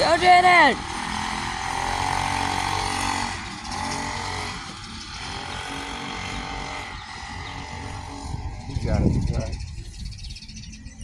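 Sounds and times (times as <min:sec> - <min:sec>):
mini bike engine running: 0:00.0 - 0:11.0.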